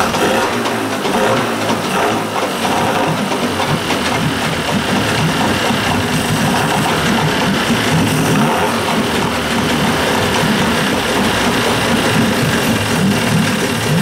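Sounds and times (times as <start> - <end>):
two-stroke outboard motor running: 0.0 - 14.0.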